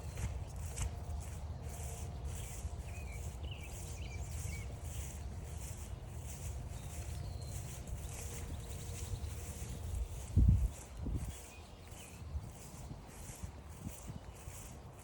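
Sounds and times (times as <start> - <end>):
footsteps crunching on a trail: 0.0 - 15.0.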